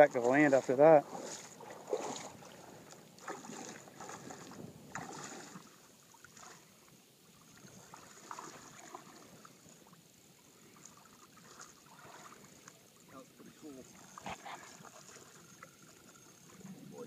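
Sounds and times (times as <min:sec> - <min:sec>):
water lapping around a boat: 0:00.0 - 0:17.0.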